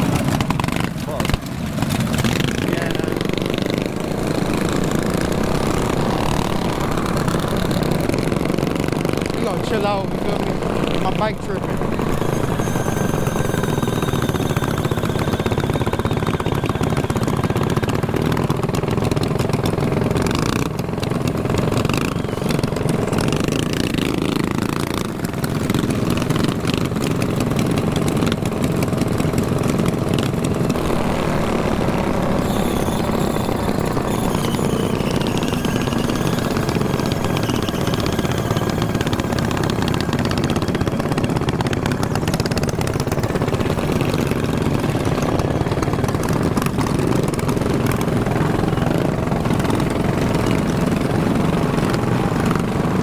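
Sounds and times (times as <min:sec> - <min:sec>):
mini bike engines running: 0:00.0 - 0:53.0.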